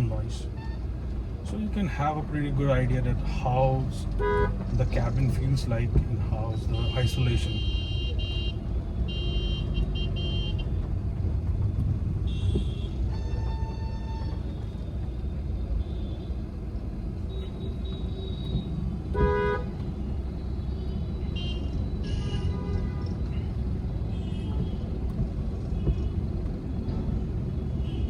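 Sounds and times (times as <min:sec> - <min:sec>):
road and engine rumble in car cabin: 0:00.0 - 0:28.0.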